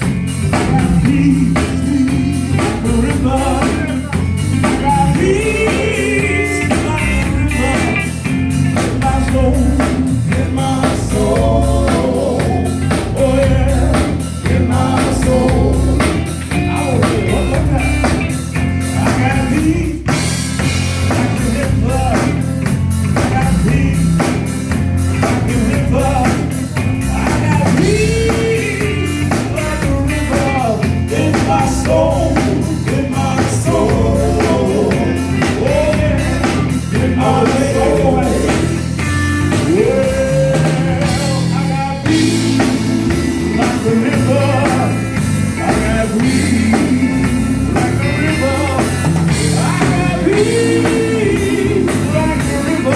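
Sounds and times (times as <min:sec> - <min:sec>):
bass guitar: 0:00.0 - 0:52.9
drum kit beat: 0:00.0 - 0:52.9
guitar: 0:00.0 - 0:52.9
people singing: 0:00.0 - 0:52.9.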